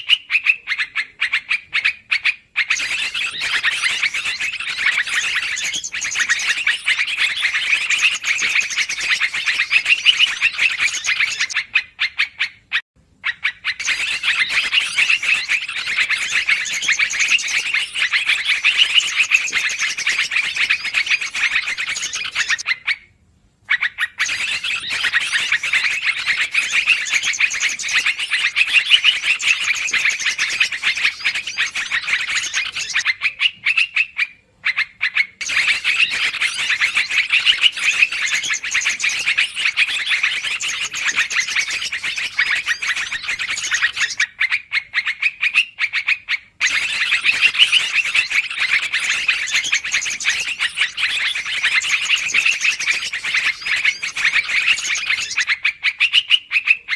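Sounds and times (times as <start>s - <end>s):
bulbul chattering: 0.1s - 23.0s, 23.9s - 44.2s, 46.6s - 56.0s.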